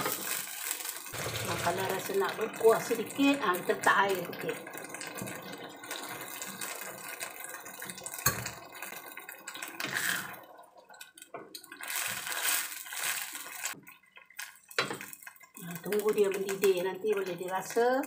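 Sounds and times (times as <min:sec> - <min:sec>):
gravy simmering: 0:00.0 - 0:18.0
water pouring into wok: 0:00.0 - 0:18.0.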